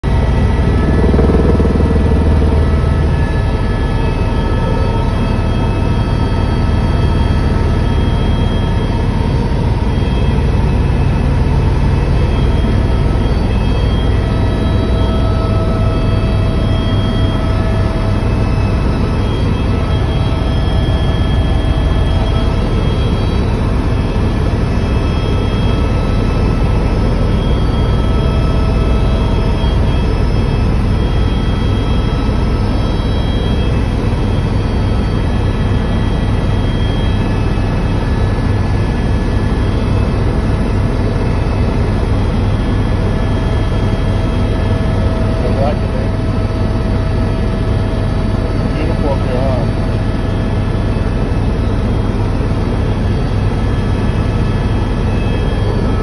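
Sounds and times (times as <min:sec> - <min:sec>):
helicopter rotor and engine rumble: 0:00.0 - 0:56.0
high turbine whine: 0:00.0 - 0:56.0.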